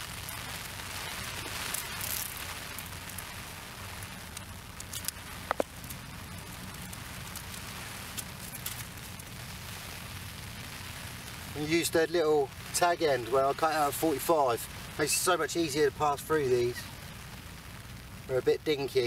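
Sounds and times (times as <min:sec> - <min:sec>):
rain on an umbrella: 0:00.0 - 0:19.0.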